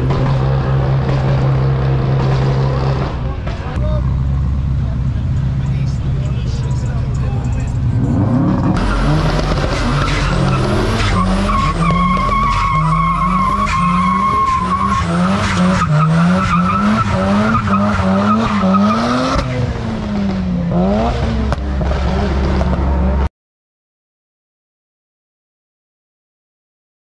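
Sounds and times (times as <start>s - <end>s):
car engine revving: 0.0s - 23.3s.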